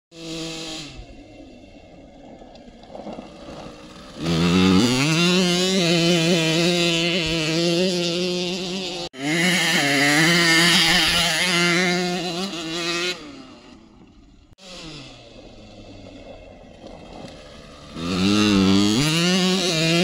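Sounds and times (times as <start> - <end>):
dirt bike engine revving: 0.1 - 20.0.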